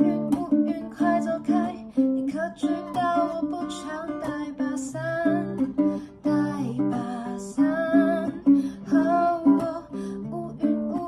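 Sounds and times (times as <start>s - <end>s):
person singing: 0.0s - 11.0s
strummed guitar or ukulele: 0.0s - 11.0s.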